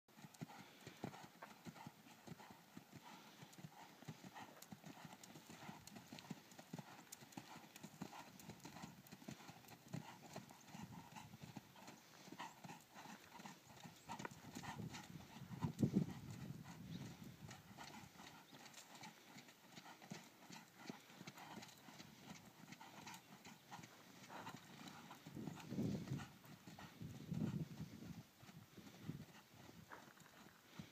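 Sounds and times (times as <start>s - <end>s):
hoofbeats on sand: 0.4s - 30.9s.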